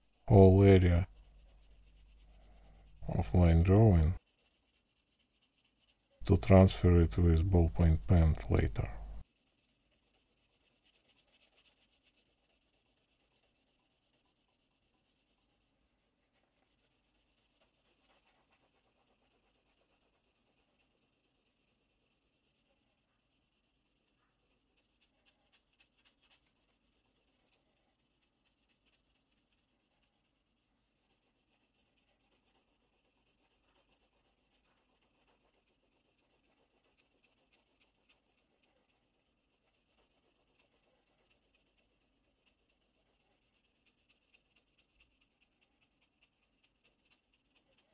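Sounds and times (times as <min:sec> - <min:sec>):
graphite rubbing on paper: 0:00.0 - 0:47.9.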